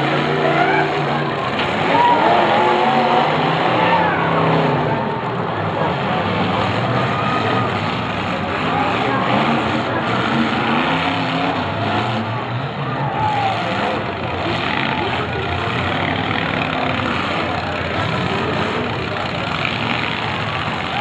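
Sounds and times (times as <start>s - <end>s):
car engines running and revving: 0.0s - 21.0s.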